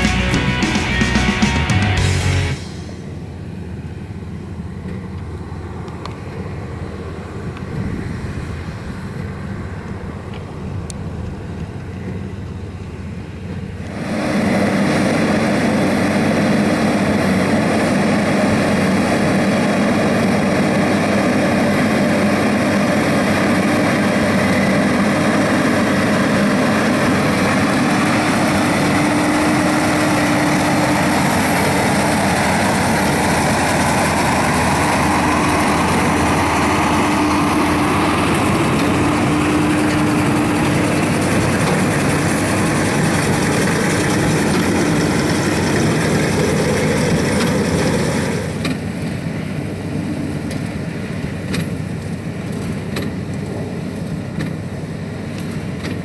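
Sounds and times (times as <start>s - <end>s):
baler machinery running: 0.0s - 56.0s
tractor diesel engine running: 0.0s - 56.0s.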